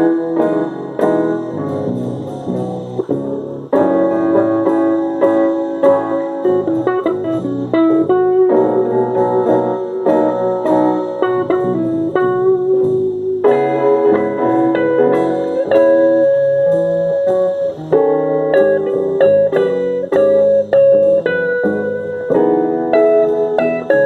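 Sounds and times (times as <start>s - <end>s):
plucked guitar and keyboard music: 0.0s - 24.0s.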